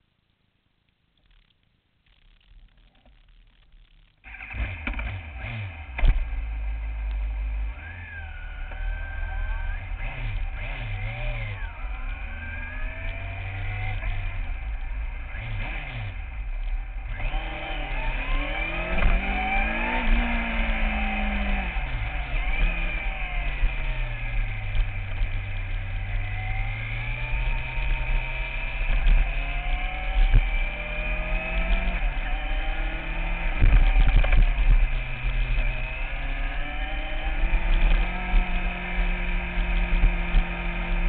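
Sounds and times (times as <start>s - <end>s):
motorcycle engine revving: 4.2s - 41.0s.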